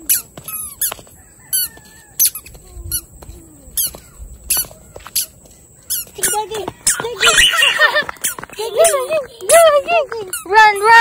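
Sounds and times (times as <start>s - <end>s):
squeaky shoes squeaking: 0.0s - 11.0s.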